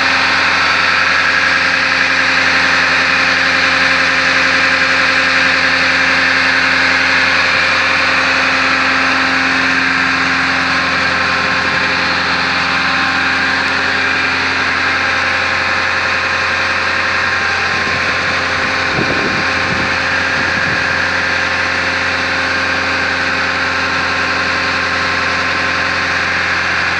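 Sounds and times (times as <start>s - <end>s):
drilling rig engine droning: 0.0s - 26.9s.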